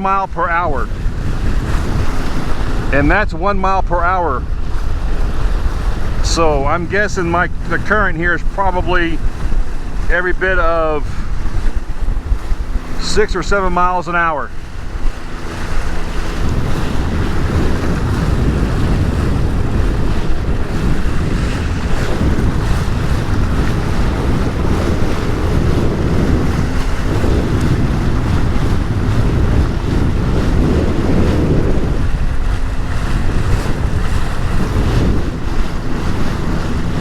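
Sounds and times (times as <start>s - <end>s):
personal watercraft engine: 0.0s - 37.0s
waves and rough water: 0.0s - 37.0s
wind buffeting microphone: 0.0s - 37.0s.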